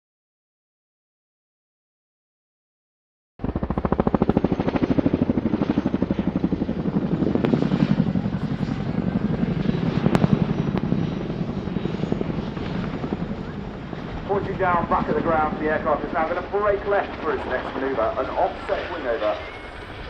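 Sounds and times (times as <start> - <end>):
helicopter rotor blade slap: 3.4 - 20.0.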